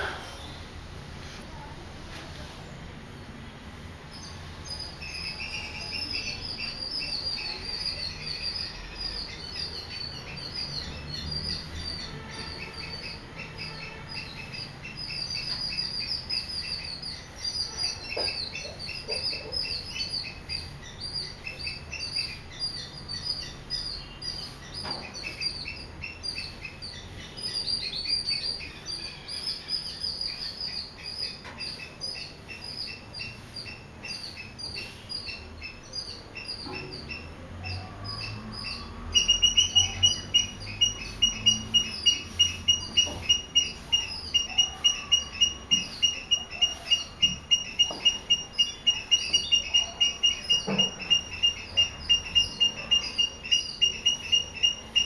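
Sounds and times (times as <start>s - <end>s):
small birds twittering: 0.0s - 55.0s.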